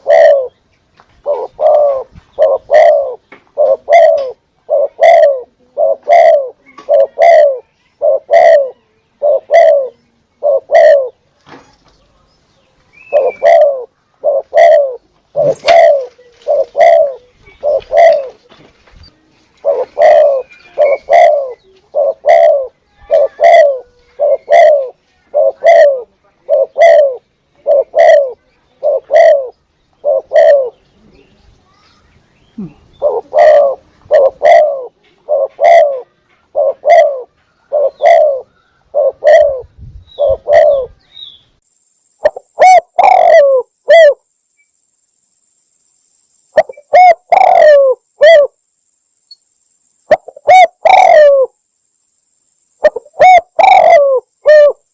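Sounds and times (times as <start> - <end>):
dove cooing: 0.0 - 0.6, 1.2 - 11.2, 13.0 - 18.6, 19.5 - 31.2, 32.6 - 41.0, 42.2 - 44.2, 46.6 - 48.6, 50.1 - 51.6, 52.8 - 54.9.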